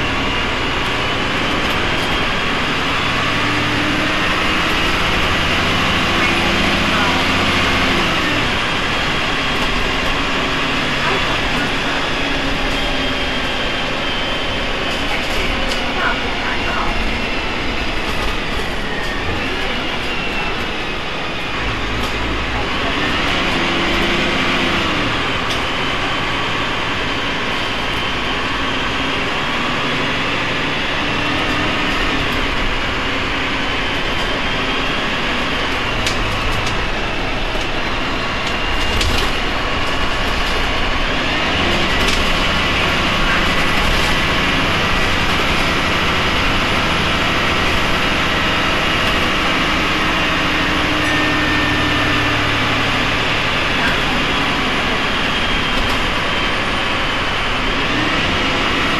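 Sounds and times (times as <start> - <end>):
diesel bus engine running: 0.0 - 58.9.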